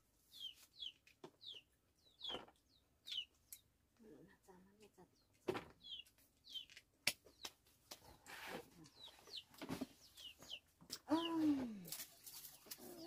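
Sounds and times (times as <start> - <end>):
birds chirping: 0.2 - 13.0.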